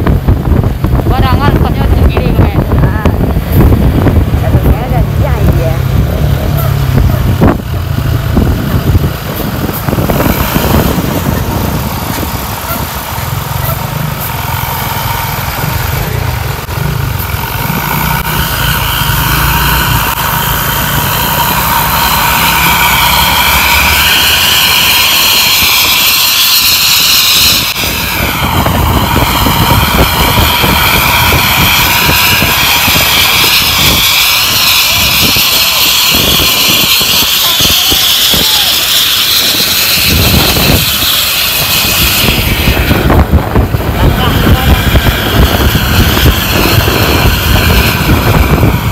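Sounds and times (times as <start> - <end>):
loud high exhaust whine: 0.0 - 48.9
low engine rumble: 0.0 - 48.9.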